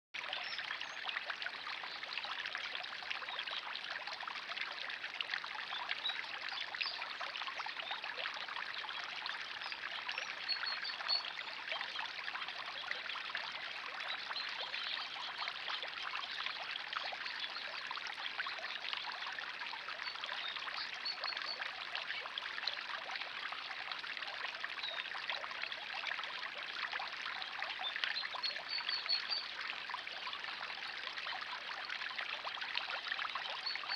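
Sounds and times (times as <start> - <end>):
water trickling and splashing: 0.2 - 33.9.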